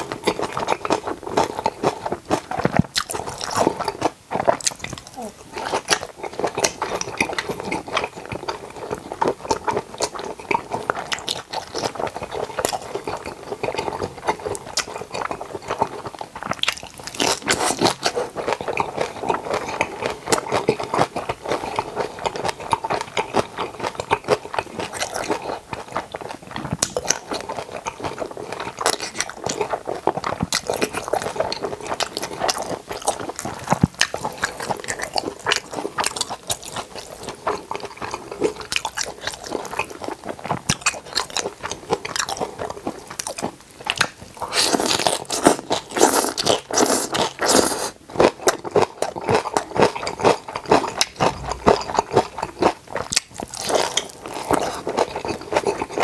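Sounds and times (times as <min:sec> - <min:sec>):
crunching and chewing food: 0:00.0 - 0:56.0.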